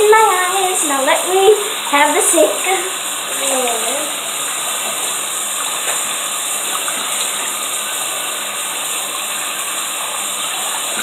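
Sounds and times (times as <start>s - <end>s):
tap water gushing into sink: 0.0s - 11.0s.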